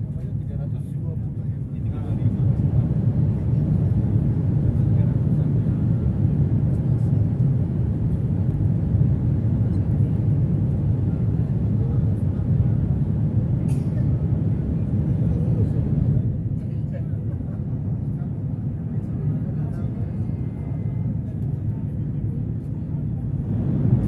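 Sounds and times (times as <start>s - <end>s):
electric train low rumble: 0.0s - 24.0s.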